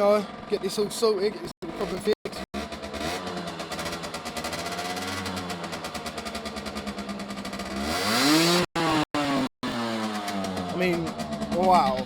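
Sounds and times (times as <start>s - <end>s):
two-stroke engine idling and revving: 0.0s - 12.0s.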